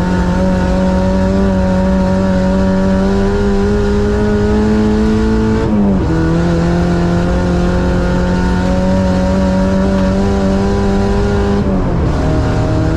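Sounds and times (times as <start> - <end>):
car engine at high revs: 0.0 - 12.9.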